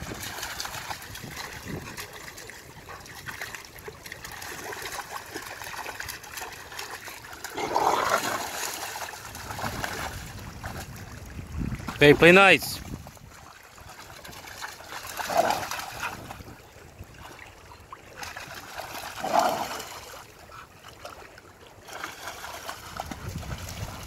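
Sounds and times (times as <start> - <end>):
dogs splashing in water: 0.0 - 24.0.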